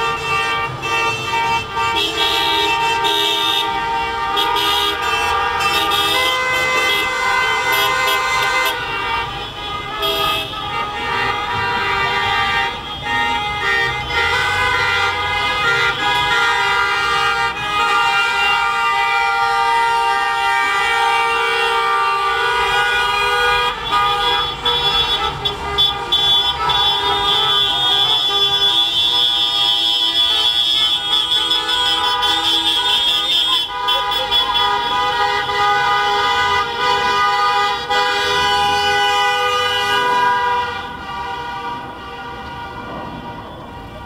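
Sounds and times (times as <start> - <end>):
many car horns honking: 0.0 - 44.0.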